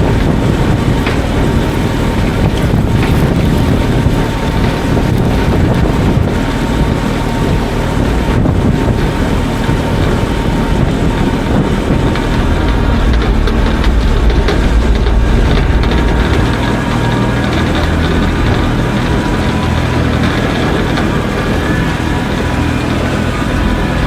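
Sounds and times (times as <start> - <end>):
vehicle engine rumble: 0.0 - 24.0
wind noise on microphone: 0.0 - 24.0.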